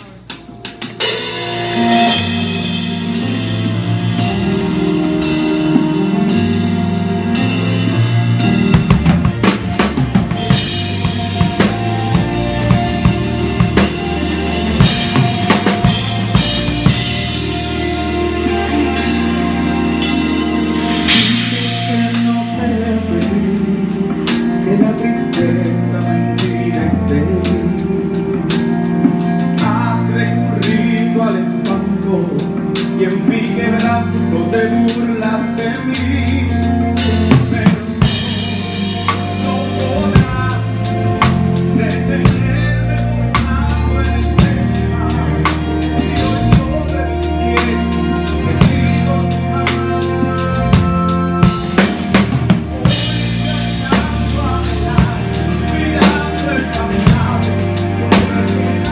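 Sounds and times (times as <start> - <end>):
bass guitar: 0.0 - 58.9
drum kit beat: 0.0 - 58.9
electric guitar: 0.0 - 58.9
keyboard: 0.0 - 58.9.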